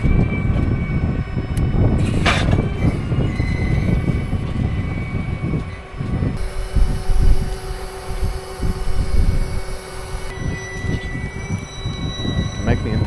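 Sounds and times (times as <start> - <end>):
rumble of moving steel frame: 0.0 - 13.0
tractor running: 0.0 - 13.0.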